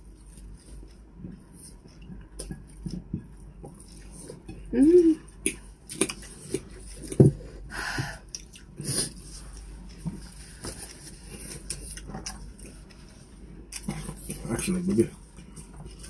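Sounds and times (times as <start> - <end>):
chewing and mouth sounds: 0.0 - 7.5, 8.2 - 16.0.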